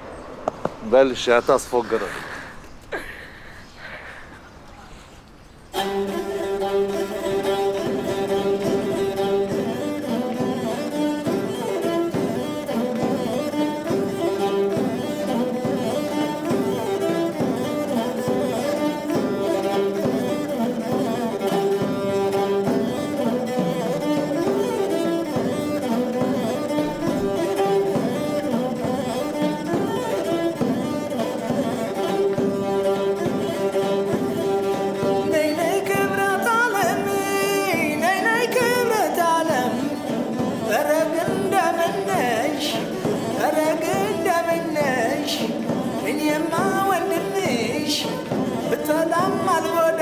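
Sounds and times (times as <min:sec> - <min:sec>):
bowed string music: 0:05.6 - 0:50.0.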